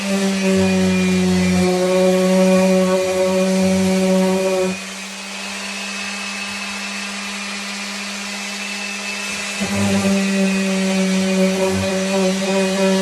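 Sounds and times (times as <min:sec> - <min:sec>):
electric sander sanding wood: 0:00.0 - 0:13.0.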